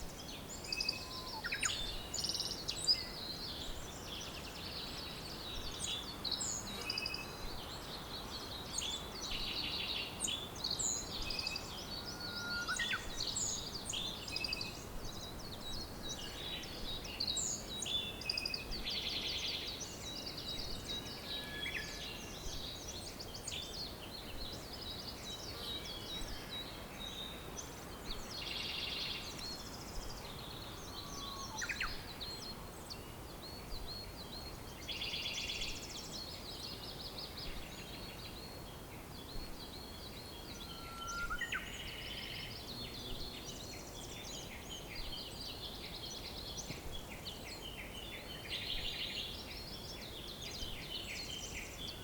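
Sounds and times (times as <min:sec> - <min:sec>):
background hiss: 0:00.0 - 0:52.0
songbirds chirping and singing: 0:00.0 - 0:52.0.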